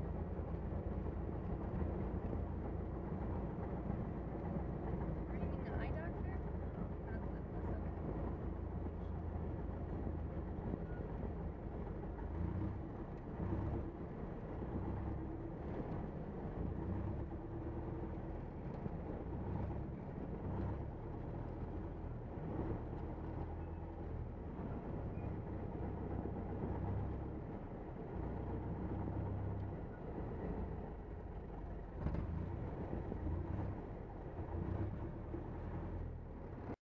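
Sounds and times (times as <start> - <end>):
propeller plane engine rumble: 0.0 - 36.8.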